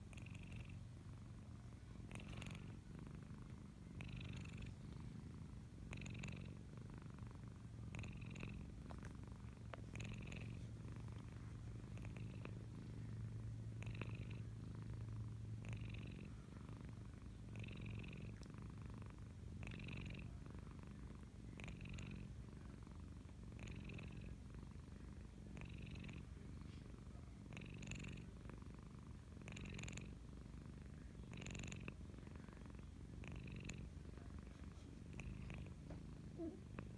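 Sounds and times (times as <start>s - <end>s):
cat snoring: 0.0s - 1.4s, 2.0s - 8.8s, 9.9s - 36.9s
cat purring: 0.0s - 36.9s.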